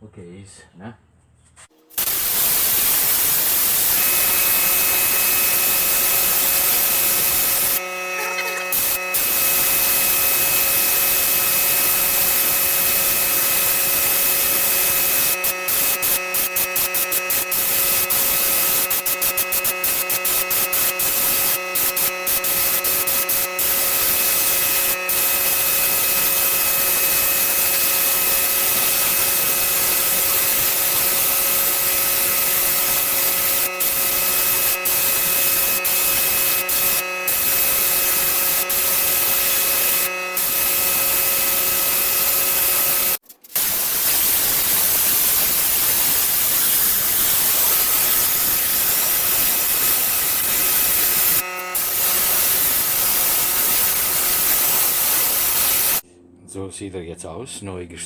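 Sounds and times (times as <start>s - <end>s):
motor hum: 1.9s - 56.0s
paint sprayer hiss: 1.9s - 56.0s.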